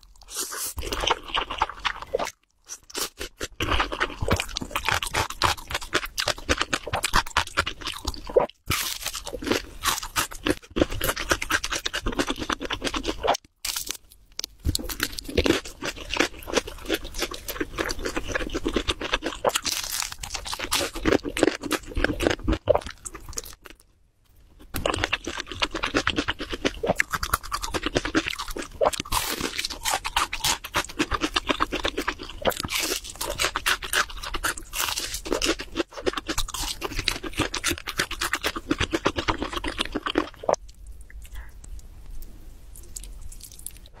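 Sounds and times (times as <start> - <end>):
crunching fried chicken: 0.0 - 23.8, 24.6 - 40.8.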